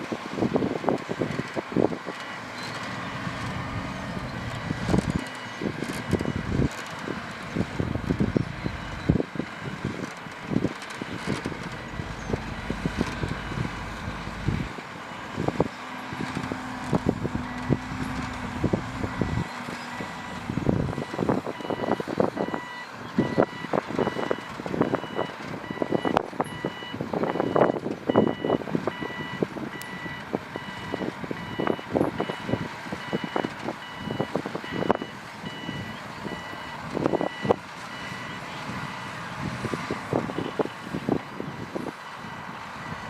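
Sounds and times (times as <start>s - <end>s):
heavy machine engine running: 0.0s - 43.0s
reversing alarm beeping: 2.1s - 6.7s, 7.7s - 9.8s, 11.1s - 15.6s, 19.0s - 39.2s, 39.8s - 43.0s.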